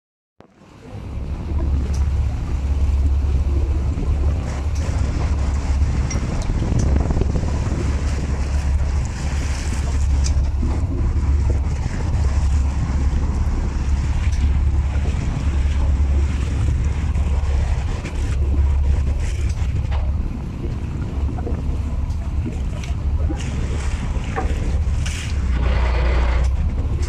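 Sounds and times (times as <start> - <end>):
water washing against hull: 0.4 - 27.0
small boat engine running: 0.5 - 27.0
wind buffeting microphone: 0.7 - 27.0.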